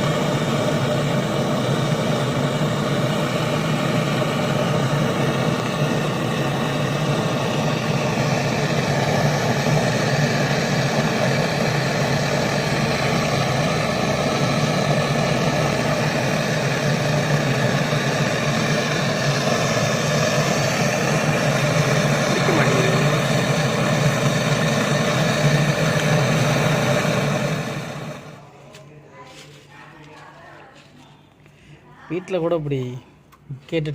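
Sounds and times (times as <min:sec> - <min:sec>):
pump motor humming: 0:00.0 - 0:28.4.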